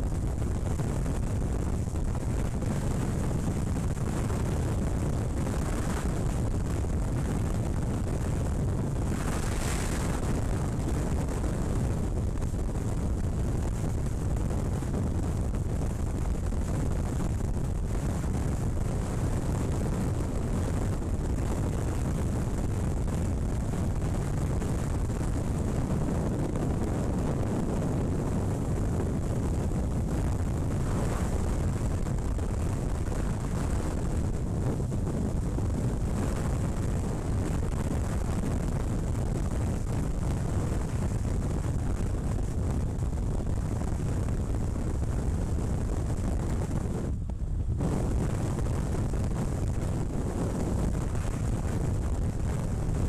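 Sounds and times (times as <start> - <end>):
motorcycle engine and tyre drone: 0.0 - 53.0
wind buffeting microphone: 0.0 - 53.0.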